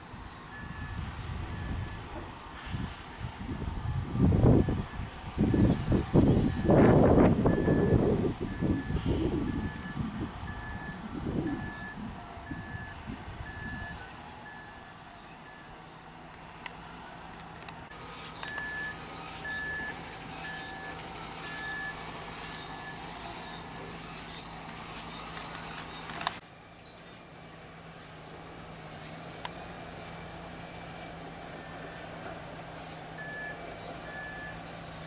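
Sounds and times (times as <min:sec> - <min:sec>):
cicadas buzzing: 0:00.0 - 0:35.0
reversing alarm beeping: 0:00.5 - 0:02.7, 0:03.8 - 0:15.8, 0:17.9 - 0:26.4, 0:29.6 - 0:35.0.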